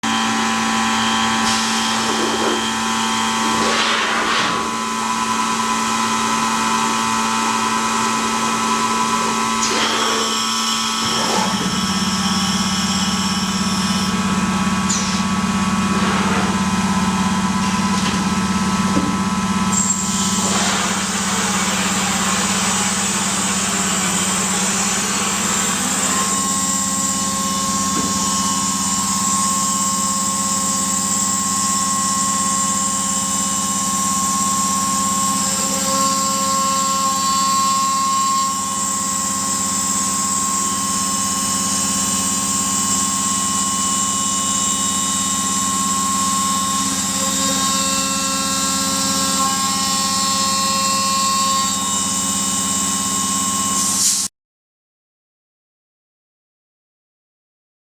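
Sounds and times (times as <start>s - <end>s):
router spindle whine: 0.0s - 54.2s.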